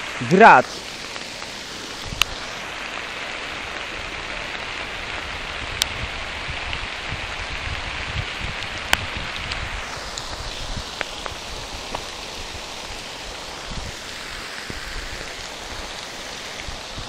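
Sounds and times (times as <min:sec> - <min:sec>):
heavy rain falling: 0:00.0 - 0:17.0
raindrops ticking close by: 0:00.0 - 0:17.0.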